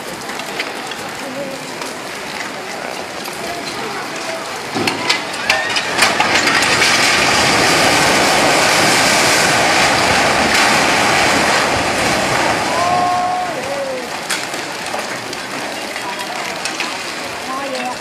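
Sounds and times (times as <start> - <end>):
rumble of falling masonry: 0.0 - 18.0.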